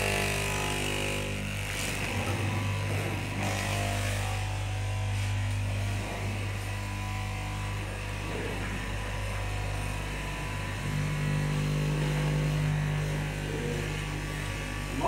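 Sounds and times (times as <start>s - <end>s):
cloth cutting machine motor humming: 0.0s - 15.0s.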